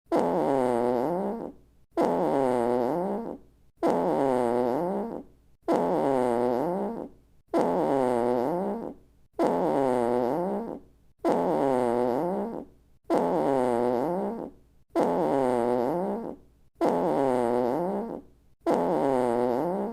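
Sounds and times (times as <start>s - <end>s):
comic fart sound effect: 0.1s - 19.9s.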